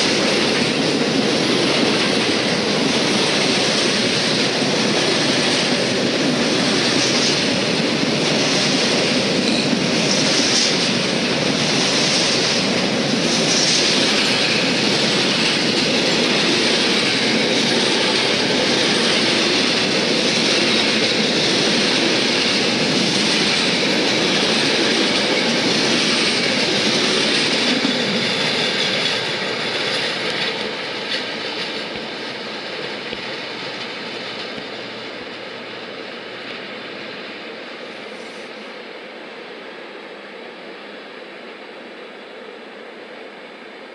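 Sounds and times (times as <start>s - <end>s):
train wheels on rail: 0.0s - 43.9s.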